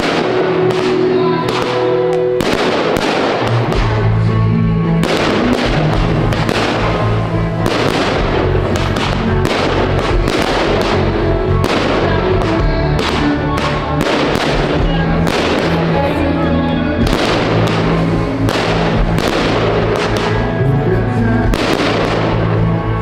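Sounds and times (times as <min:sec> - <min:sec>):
firework crackles: 0:00.0 - 0:23.0
fireworks bursting: 0:00.0 - 0:23.0
music with held bass notes: 0:00.0 - 0:23.0.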